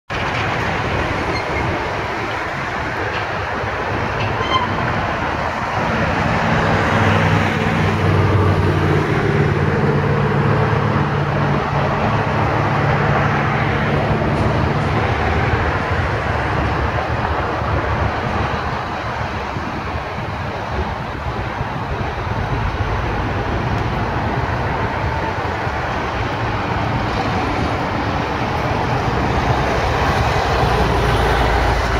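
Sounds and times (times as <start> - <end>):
heavy vehicle engine hum: 0.1 - 31.9
road traffic noise: 0.1 - 31.9.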